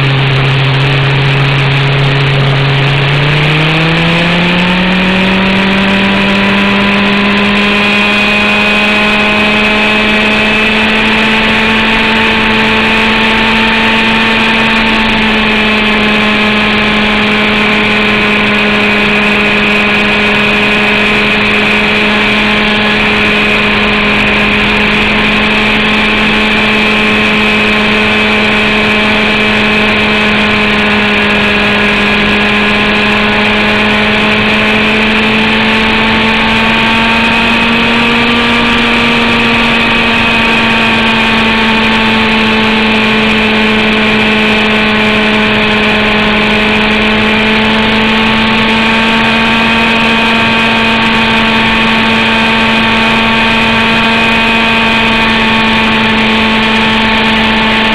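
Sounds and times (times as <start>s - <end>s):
model helicopter engine running: 0.0s - 57.9s.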